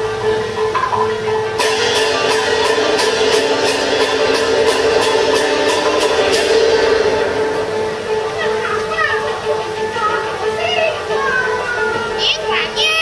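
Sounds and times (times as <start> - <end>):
sharp percussion strikes: 0.0 - 10.6.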